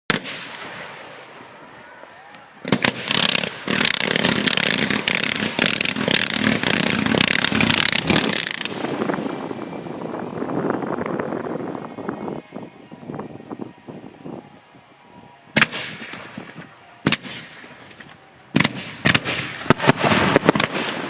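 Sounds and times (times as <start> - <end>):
fireworks crackling and banging: 0.1 - 11.6, 15.6 - 21.0.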